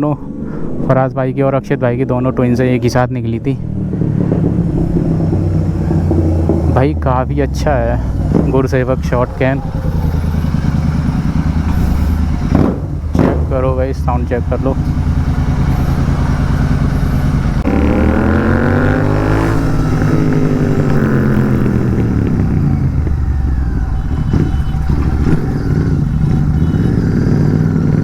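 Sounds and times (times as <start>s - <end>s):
motorcycle idling and revving: 0.0s - 28.0s.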